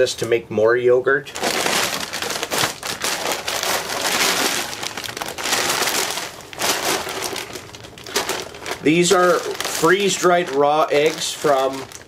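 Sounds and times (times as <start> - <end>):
foil bags crinkling: 1.3 - 12.0.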